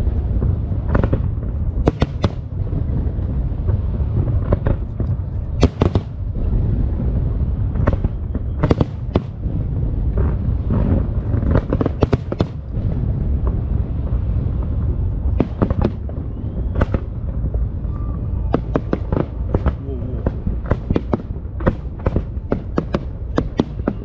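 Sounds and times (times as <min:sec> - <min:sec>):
sharp firework cracks: 0:00.0 - 0:02.8, 0:03.6 - 0:06.4, 0:07.7 - 0:13.5, 0:14.6 - 0:17.4, 0:18.4 - 0:24.0
low rumble of fireworks: 0:00.0 - 0:24.0.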